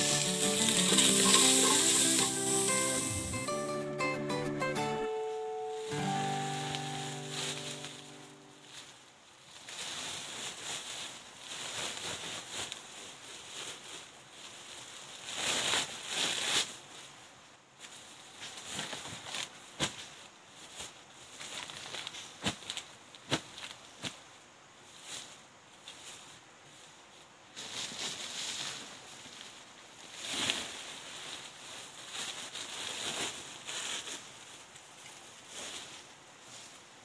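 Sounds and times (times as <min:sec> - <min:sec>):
plastic sacks rustling: 0:00.0 - 0:03.5, 0:05.1 - 0:24.3, 0:27.6 - 0:36.6.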